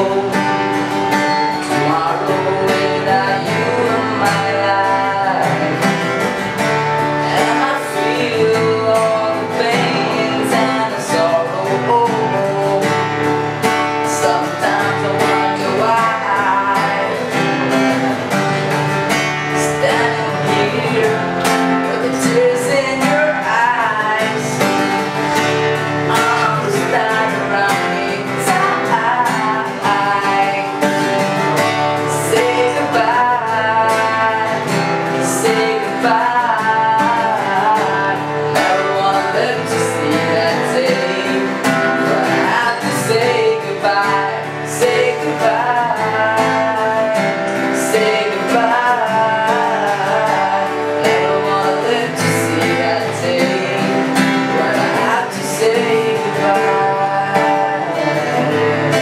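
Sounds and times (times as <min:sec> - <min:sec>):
acoustic guitar strumming: 0:00.0 - 0:59.0
young man singing: 0:00.0 - 0:59.0.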